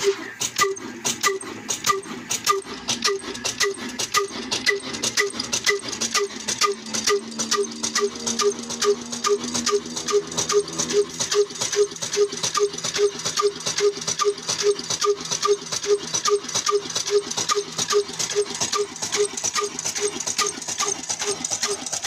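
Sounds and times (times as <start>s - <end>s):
diesel engine knocking steadily: 0.0s - 22.0s.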